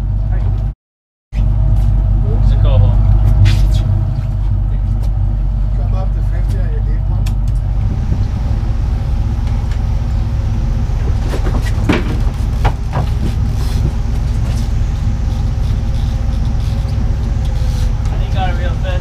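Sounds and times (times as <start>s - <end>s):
boat engine droning: 1.4s - 19.0s.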